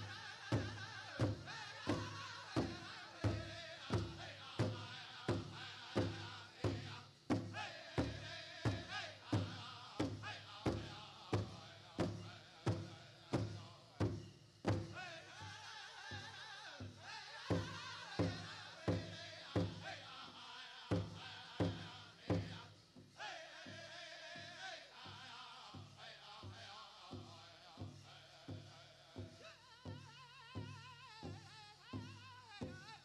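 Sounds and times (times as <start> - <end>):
voices singing together: 0.0 - 33.0.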